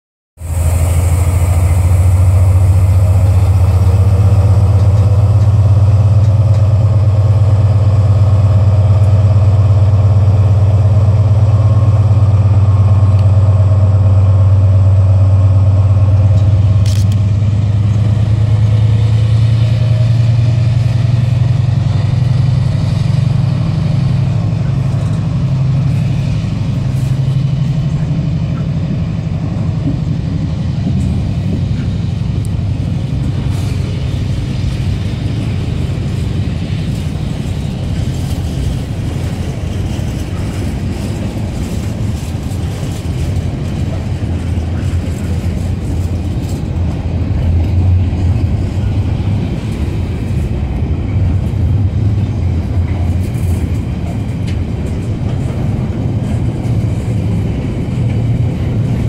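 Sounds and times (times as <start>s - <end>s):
diesel locomotive engine droning: 0.4s - 59.0s.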